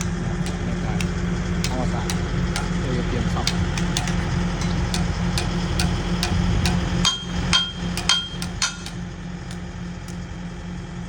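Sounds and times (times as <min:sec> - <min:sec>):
hammer blows on metal: 0:00.0 - 0:09.0
low machine hum: 0:00.0 - 0:11.0.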